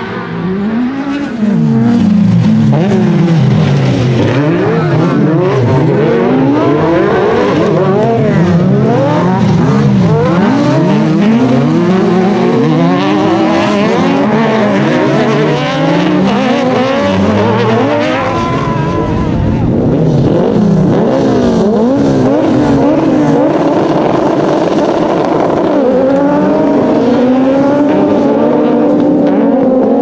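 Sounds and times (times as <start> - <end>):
buggy engines revving: 0.0 - 30.0.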